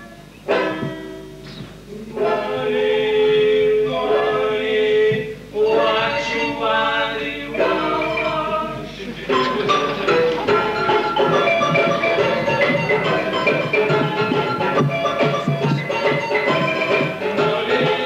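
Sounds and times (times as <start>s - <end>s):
voices singing held notes: 1.8s - 18.0s.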